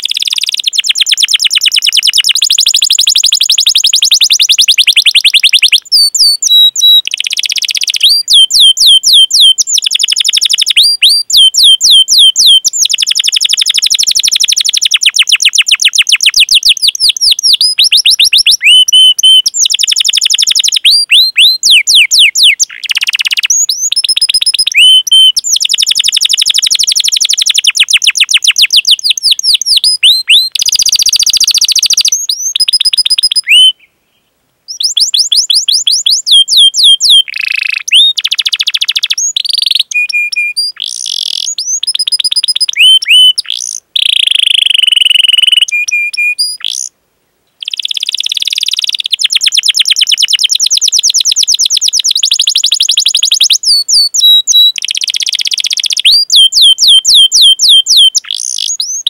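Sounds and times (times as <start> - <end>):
canary singing trills: 0.0 - 33.9, 34.7 - 46.9, 47.6 - 59.0.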